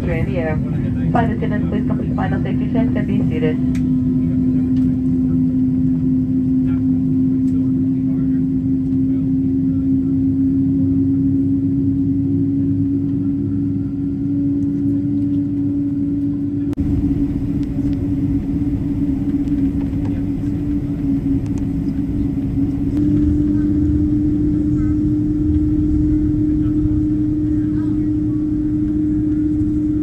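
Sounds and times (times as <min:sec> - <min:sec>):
jet cabin rumble and hum: 0:00.0 - 0:30.0.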